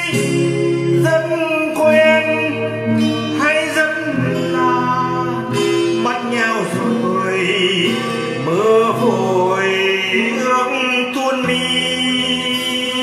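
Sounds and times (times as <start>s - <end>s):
slow guitar melody over chords: 0.0s - 13.0s.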